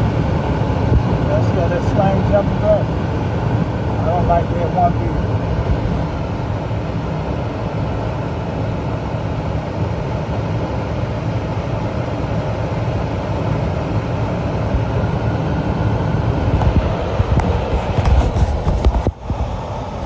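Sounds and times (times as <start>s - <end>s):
gas furnace flame rumble: 0.0s - 20.0s.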